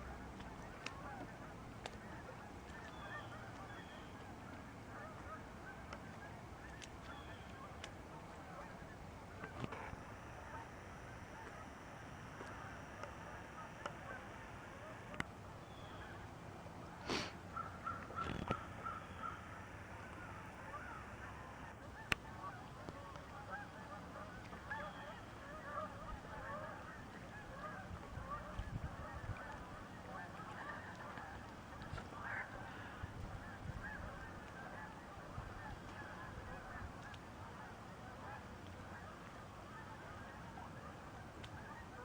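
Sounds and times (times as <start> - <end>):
flock of geese honking: 0.1 - 16.3, 17.1 - 42.0.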